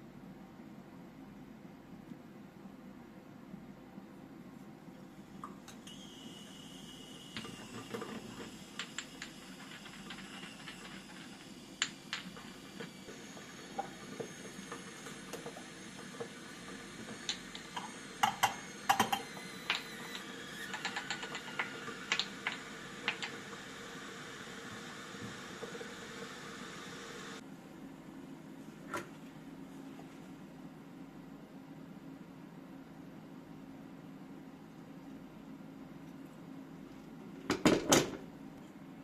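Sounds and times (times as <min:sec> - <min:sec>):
faint background hum: 0:00.0 - 0:39.0.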